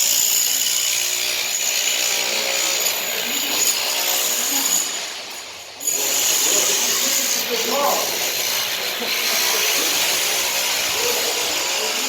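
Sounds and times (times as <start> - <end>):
power tool whining: 0.0 - 12.0.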